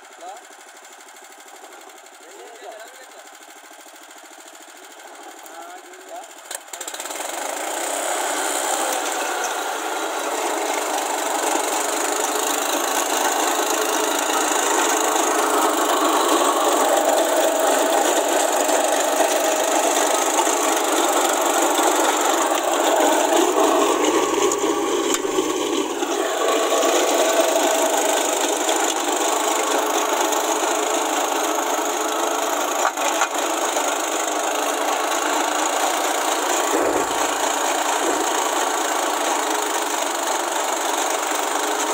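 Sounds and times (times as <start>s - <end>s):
tractor engine: 0.0s - 41.9s
tiller blades churning dirt: 6.3s - 41.9s.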